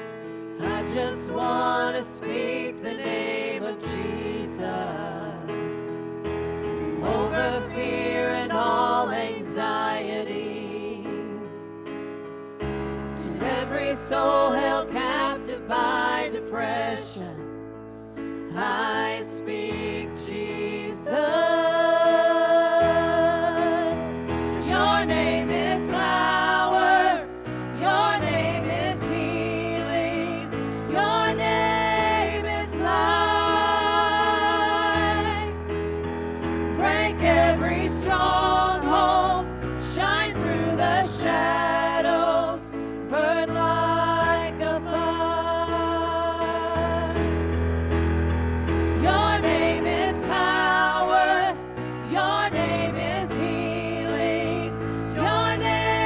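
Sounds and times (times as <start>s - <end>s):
worship band with keyboard: 0.0s - 56.0s.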